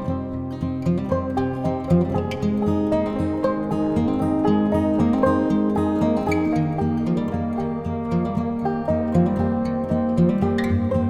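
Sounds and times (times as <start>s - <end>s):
plucked acoustic guitar melody: 0.0s - 11.0s.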